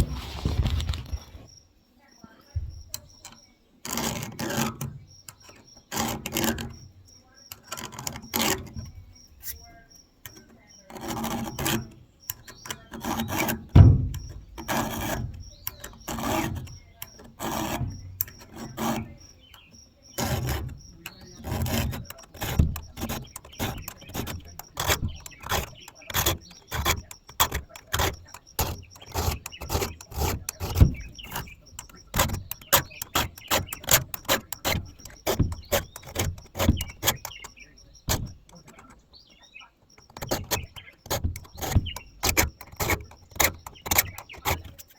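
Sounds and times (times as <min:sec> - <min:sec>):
file rasping on chainsaw chain: 0:03.0 - 0:44.9.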